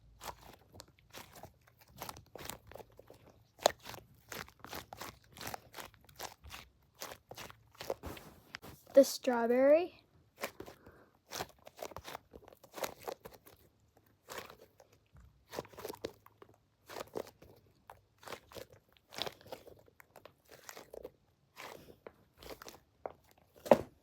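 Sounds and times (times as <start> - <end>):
foam squishy crackling and scrunching: 0.0 - 9.6, 10.2 - 24.0.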